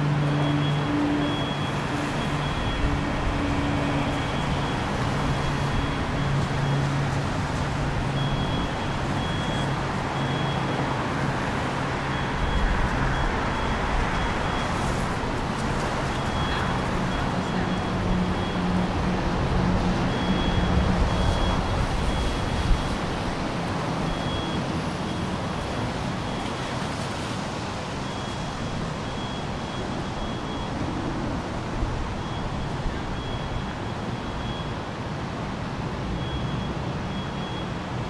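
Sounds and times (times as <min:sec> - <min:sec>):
low engine hum: 0:00.0 - 0:38.0
traffic hiss on wet road: 0:00.0 - 0:38.0.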